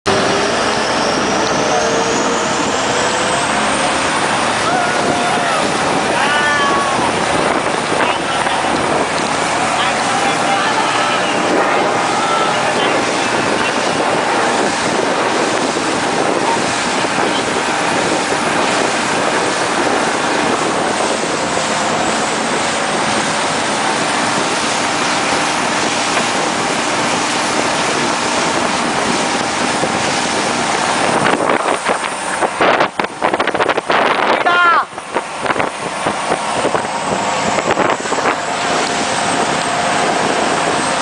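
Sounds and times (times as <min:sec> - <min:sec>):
speedboat engine running: 0:00.0 - 0:41.0
wind rushing over microphone: 0:00.1 - 0:41.0.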